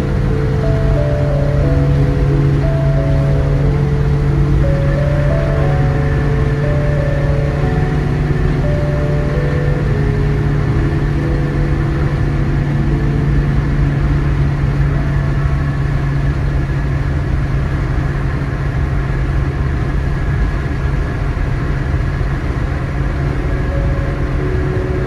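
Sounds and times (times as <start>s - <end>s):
car cruising inside cabin: 0.0s - 25.0s.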